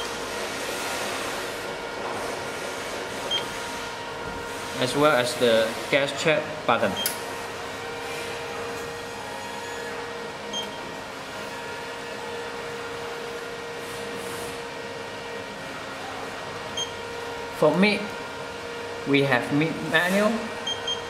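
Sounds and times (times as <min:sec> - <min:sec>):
cooling fan humming: 0:00.0 - 0:21.0.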